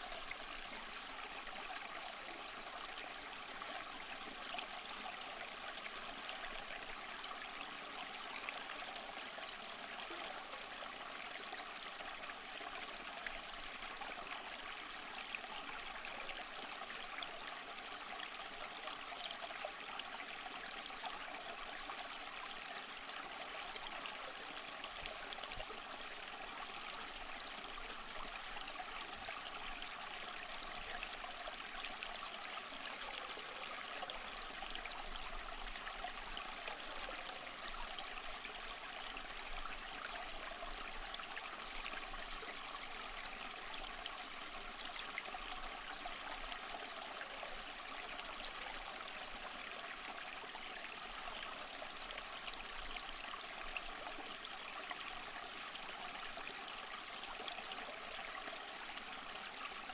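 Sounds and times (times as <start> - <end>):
stream trickling and splashing: 0.0 - 59.9.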